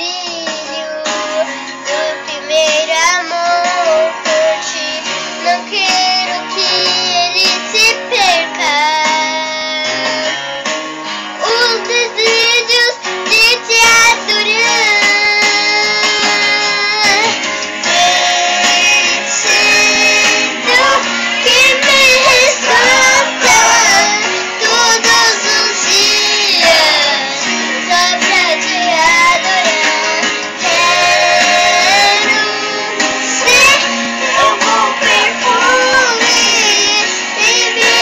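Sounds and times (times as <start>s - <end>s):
girl singing with vibrato: 0.0s - 10.4s, 11.4s - 38.0s
instrumental accompaniment: 0.0s - 38.0s.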